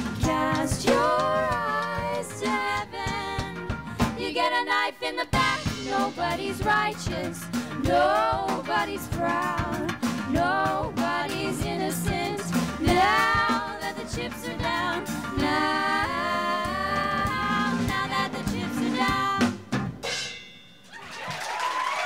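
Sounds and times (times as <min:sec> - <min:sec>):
live band with drums: 0:00.0 - 0:04.3, 0:05.3 - 0:21.9
women singing close harmony: 0:00.1 - 0:19.6.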